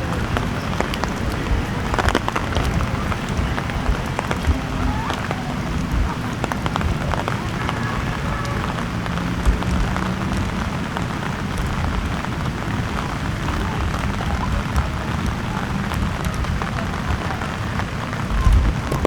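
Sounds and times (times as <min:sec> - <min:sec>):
rain hissing: 0:00.0 - 0:19.0
raindrops ticking on surfaces: 0:00.0 - 0:19.0.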